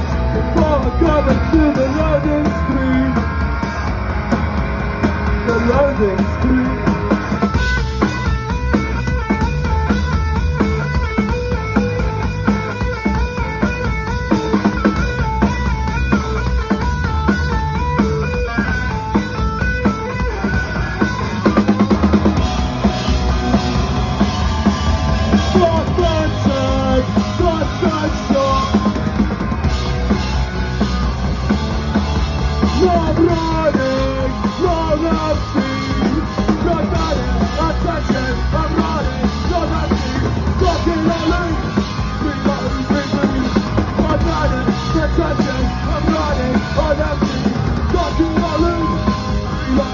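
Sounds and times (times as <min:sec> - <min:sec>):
drums: 0:00.0 - 0:49.9
guitar riff: 0:00.0 - 0:49.9
punk band playing: 0:00.0 - 0:49.9.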